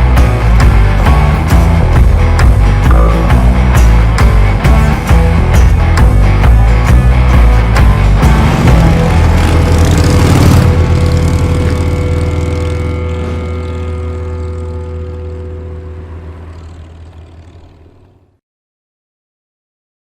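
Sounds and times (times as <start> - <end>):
rock music held chord: 0.0 - 17.5.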